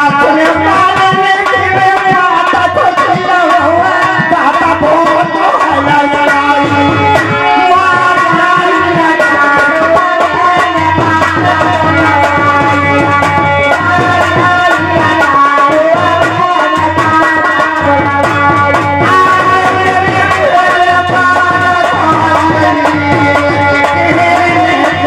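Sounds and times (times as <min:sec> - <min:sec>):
dholak drum rhythm: 0:00.0 - 0:25.0.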